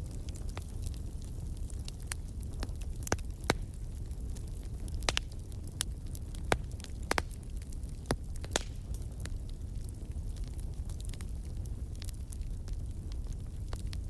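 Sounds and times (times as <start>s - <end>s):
fire crackles and pops: 0.0s - 14.0s
fire rumbling in fireplace: 0.0s - 14.0s.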